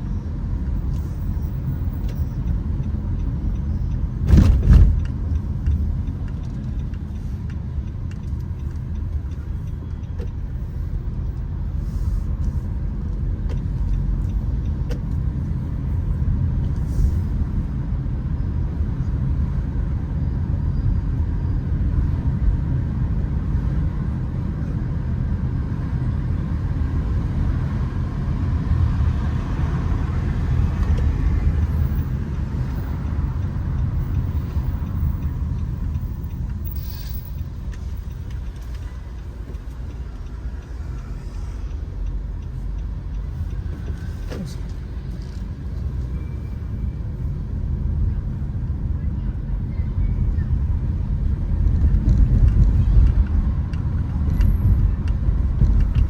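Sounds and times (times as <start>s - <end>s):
city road traffic rumble: 0.0s - 56.0s.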